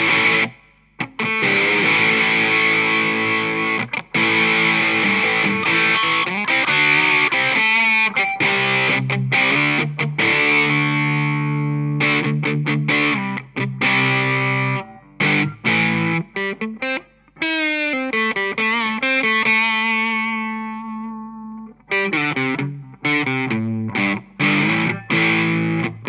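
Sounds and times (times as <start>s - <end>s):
distorted electric guitar riff: 0.0s - 26.0s.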